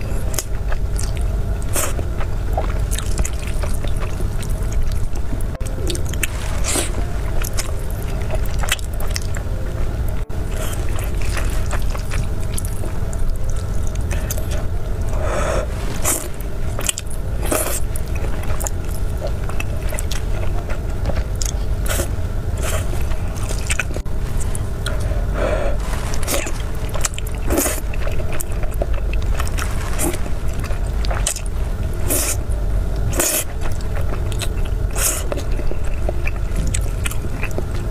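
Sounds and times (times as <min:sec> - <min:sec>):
wet chewing and smacking: 0:00.0 - 0:25.1, 0:25.8 - 0:37.9
steady low hum: 0:00.0 - 0:37.9.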